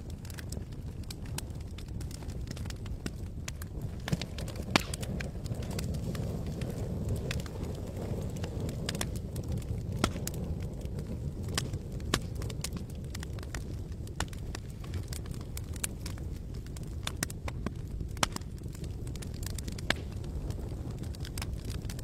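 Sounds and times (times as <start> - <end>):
campfire crackling and popping: 0.0 - 22.0
low fire rumble: 0.0 - 22.0.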